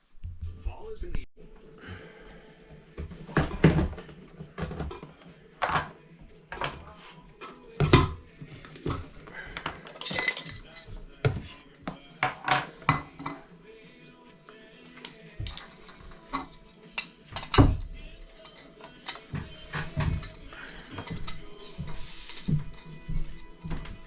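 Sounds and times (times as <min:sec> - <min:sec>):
kitchenware clattering: 0:03.0 - 0:13.5, 0:15.0 - 0:24.0.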